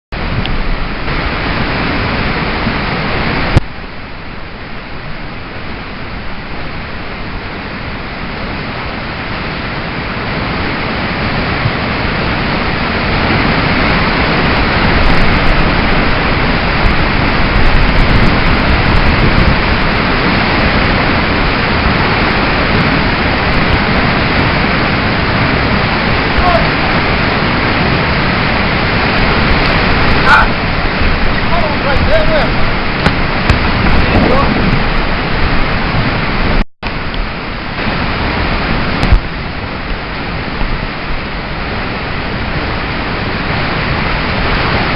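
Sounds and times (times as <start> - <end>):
river water rushing: 0.2 - 44.9.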